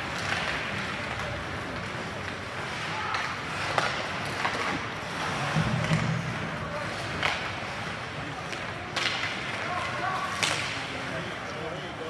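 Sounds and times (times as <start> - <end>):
hockey sticks and puck clacking: 0.0 - 12.0
spectators' voices: 0.0 - 12.0.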